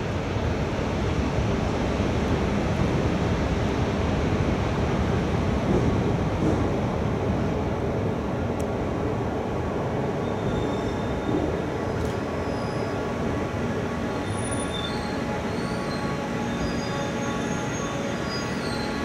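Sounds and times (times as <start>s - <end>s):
distant train rumbling on rails: 0.0s - 19.0s.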